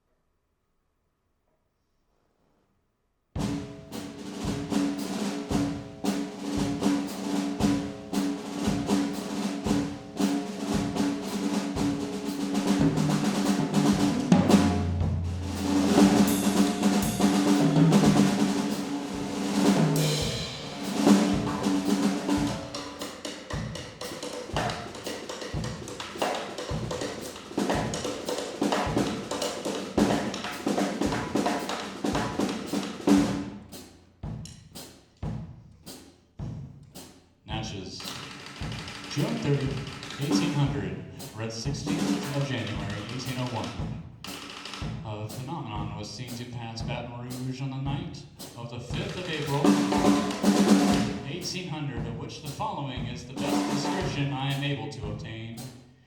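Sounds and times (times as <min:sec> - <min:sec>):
drum kit playing: 0:03.4 - 0:56.0.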